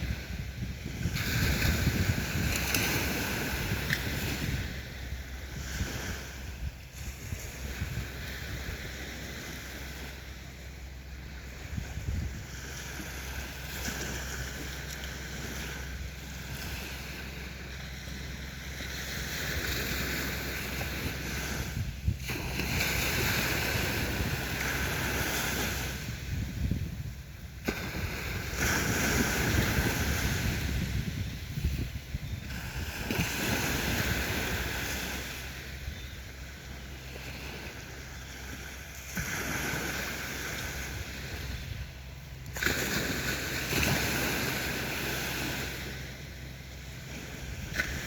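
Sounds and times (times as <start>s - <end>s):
sea waves washing onto beach: 0.0s - 48.0s
wind rumble on microphone: 0.0s - 48.0s.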